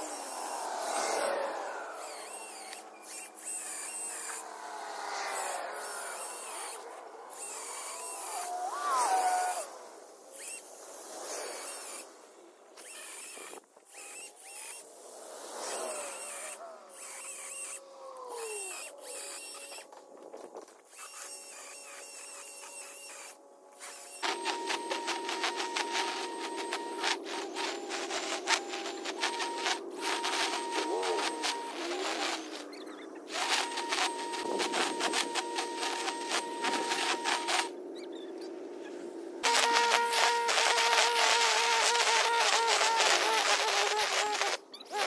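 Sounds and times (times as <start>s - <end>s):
distant small engine tool running: 0.0s - 12.1s, 12.8s - 45.0s.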